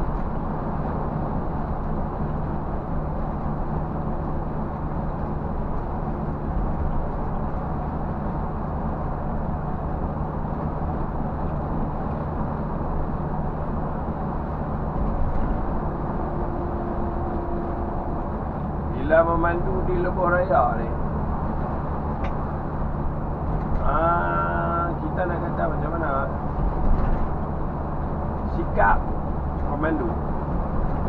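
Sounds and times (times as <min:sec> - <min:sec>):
bus engine drone: 0:00.0 - 0:31.0
tyre and road noise: 0:00.0 - 0:31.0.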